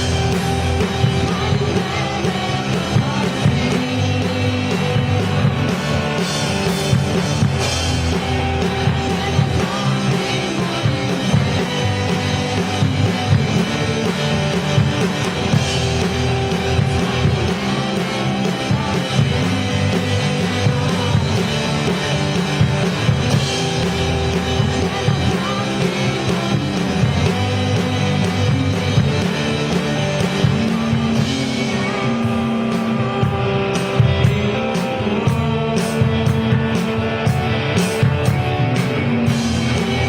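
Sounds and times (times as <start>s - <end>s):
rock band playing live: 0.0s - 40.0s.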